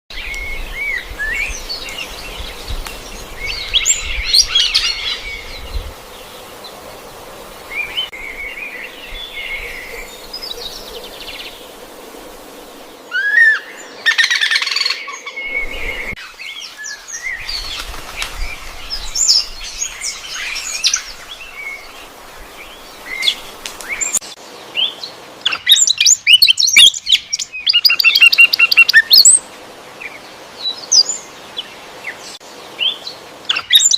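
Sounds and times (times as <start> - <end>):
birds chirping and calling: 0.2 - 12.0, 12.7 - 33.9.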